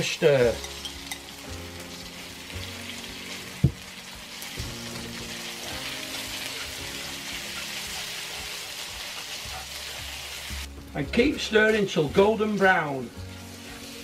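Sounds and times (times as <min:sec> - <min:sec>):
meat sizzling in hot oil: 0:00.0 - 0:14.0.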